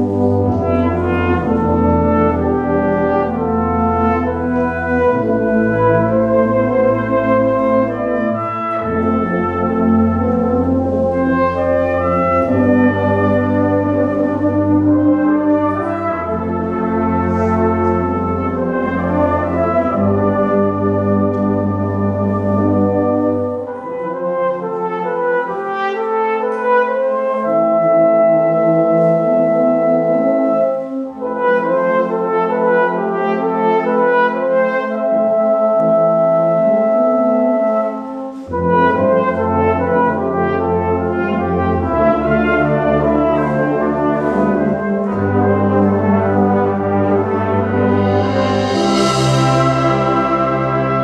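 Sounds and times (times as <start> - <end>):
brass band playing slow chords: 0.0 - 51.0.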